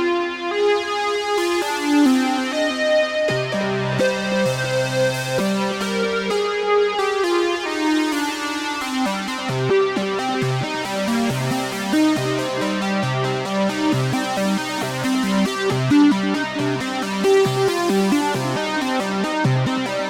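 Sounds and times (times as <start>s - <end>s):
synthesizer sequenced pattern: 1.3s - 20.0s.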